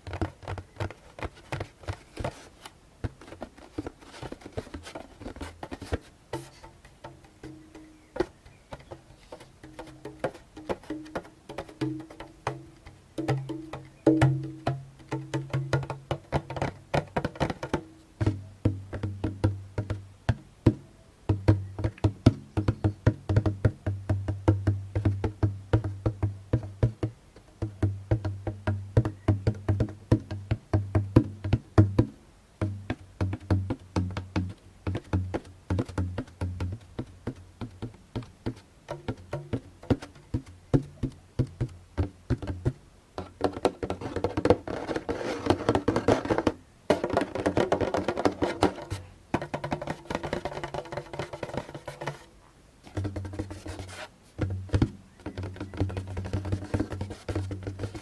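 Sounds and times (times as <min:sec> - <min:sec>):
djembe hand drumming: 0:04.4 - 0:58.0.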